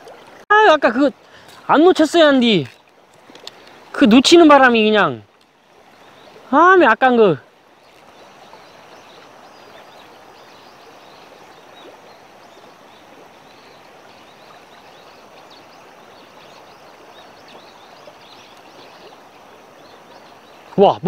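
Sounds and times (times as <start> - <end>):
river water flowing over rocks: 0.0 - 21.0.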